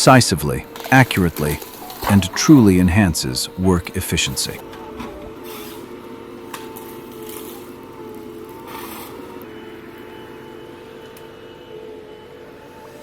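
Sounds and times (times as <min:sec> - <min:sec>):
hydraulic whine: 0:00.0 - 0:13.0
machine engine droning: 0:00.0 - 0:13.0.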